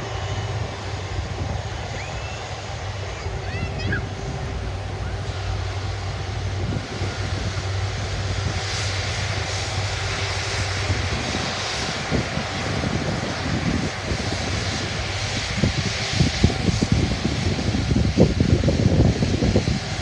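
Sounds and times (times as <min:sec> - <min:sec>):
jet engines at taxi thrust: 0:00.0 - 0:20.0
wind buffeting microphone: 0:00.0 - 0:20.0.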